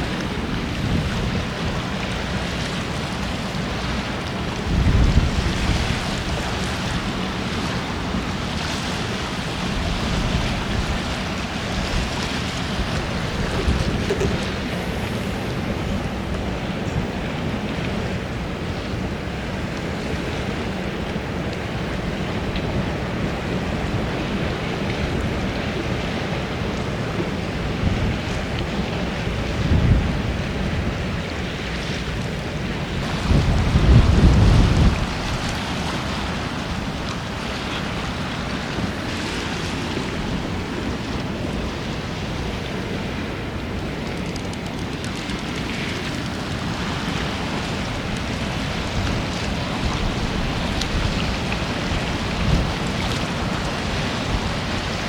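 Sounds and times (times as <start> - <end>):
strong wind buffeting microphone: 0.0 - 2.5, 4.4 - 7.4, 9.5 - 20.9, 21.8 - 31.6, 32.6 - 55.0.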